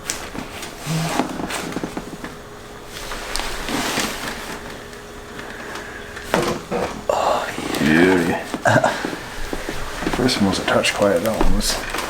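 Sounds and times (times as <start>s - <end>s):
rustling on a treatment table: 0.0s - 12.0s.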